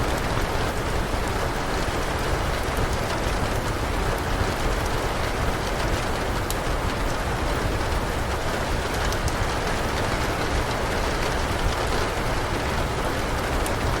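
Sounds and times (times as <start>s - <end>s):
heavy rain: 0.0s - 14.0s
wood fire crackling: 0.0s - 14.0s.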